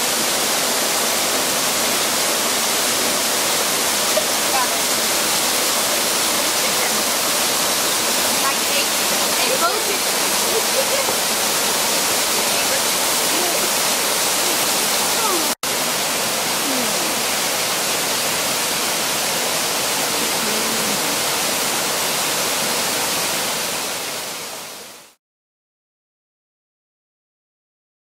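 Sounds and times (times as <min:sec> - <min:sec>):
waterfall splashing over rocks: 0:00.0 - 0:25.2.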